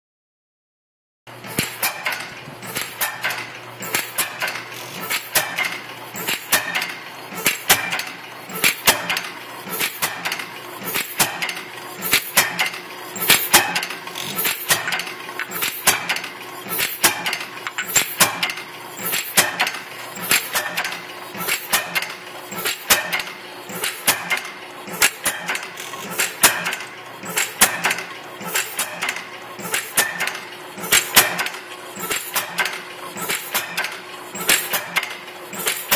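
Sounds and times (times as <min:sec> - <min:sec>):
stationary gas engine clattering: 0:01.3 - 0:35.9.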